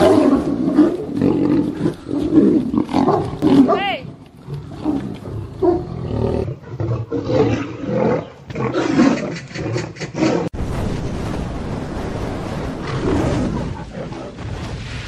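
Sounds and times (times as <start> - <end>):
tigers growling and roaring: 0.0 - 10.5, 12.7 - 14.8.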